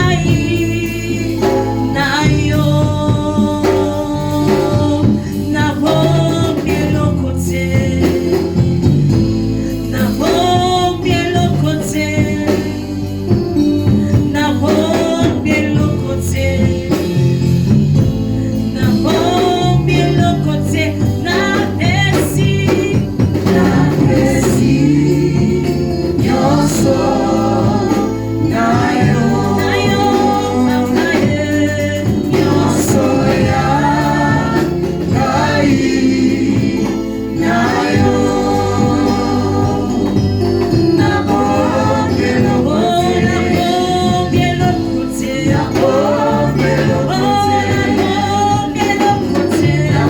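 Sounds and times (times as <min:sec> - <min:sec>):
group of voices singing gospel: 0:00.0 - 0:50.0
instrumental accompaniment with beat: 0:00.0 - 0:50.0.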